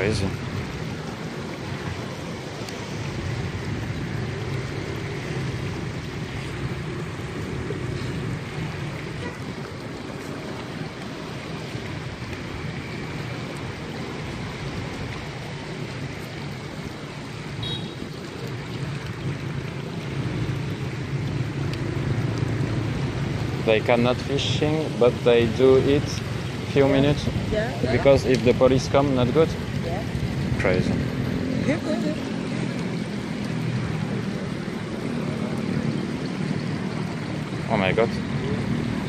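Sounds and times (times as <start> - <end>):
splashing water: 0.0 - 39.0
wind: 0.0 - 39.0.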